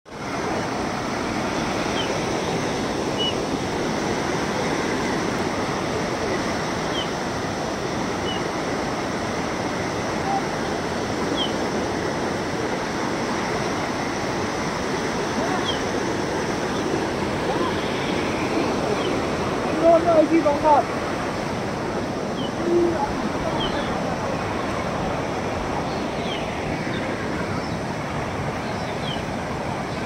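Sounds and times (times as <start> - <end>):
floodwater rushing: 0.1 - 30.0.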